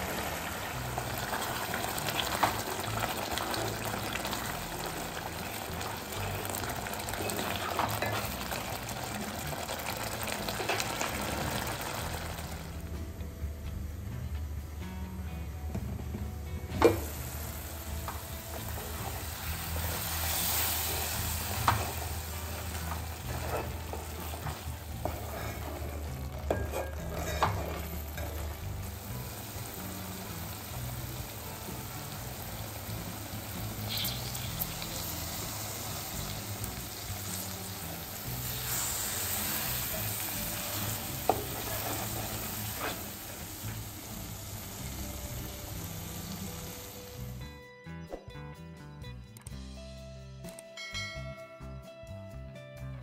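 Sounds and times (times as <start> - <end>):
curry sizzling in a pot: 0.0 - 13.1, 16.6 - 47.5.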